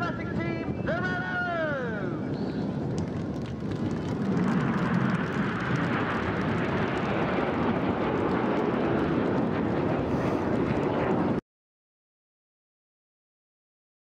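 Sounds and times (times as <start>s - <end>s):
jet engines roaring overhead: 0.0s - 11.4s.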